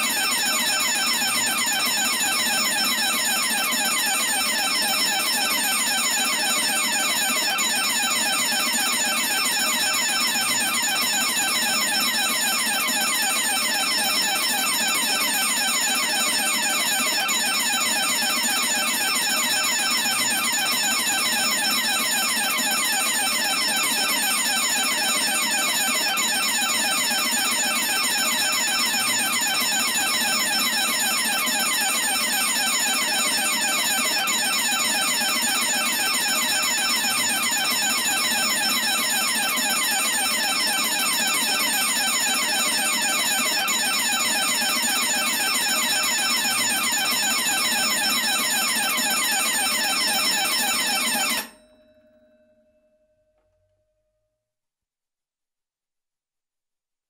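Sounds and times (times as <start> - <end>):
alarm bell ringing: 0.0 - 53.6.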